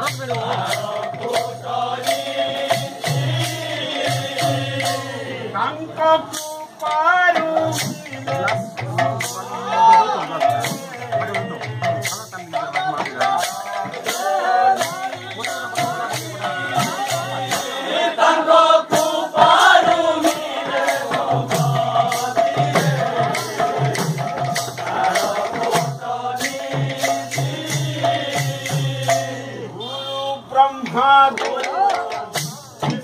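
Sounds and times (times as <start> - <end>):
barrel drums: 0.0 - 29.7, 30.7 - 33.0
men singing a devotional chant: 0.0 - 33.0.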